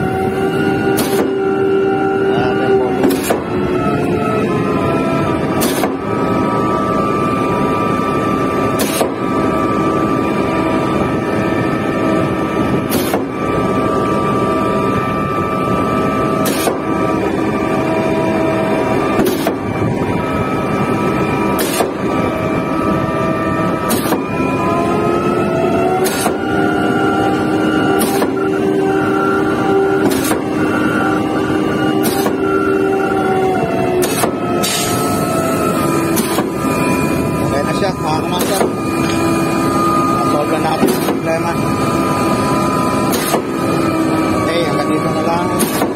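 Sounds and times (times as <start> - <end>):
concrete pump whine: 0.0 - 45.9.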